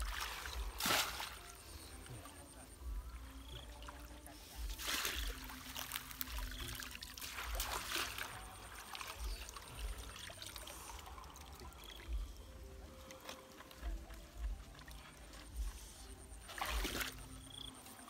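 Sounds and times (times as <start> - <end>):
water sloshing and pouring: 0.0 - 18.0.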